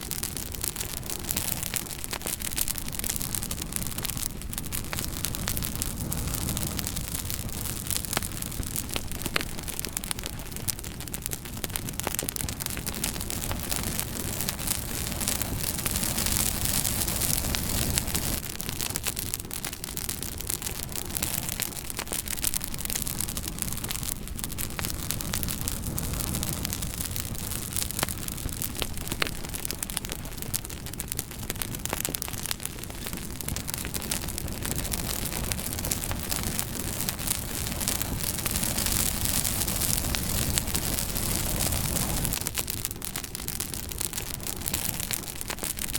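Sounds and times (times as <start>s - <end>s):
campfire crackling: 0.0s - 45.9s
fire hiss and rumble: 0.0s - 45.9s.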